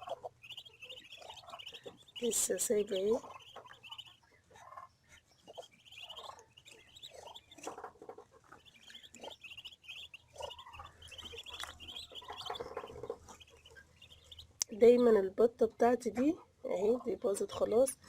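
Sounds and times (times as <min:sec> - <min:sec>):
ducklings peeping: 0:00.0 - 0:18.0.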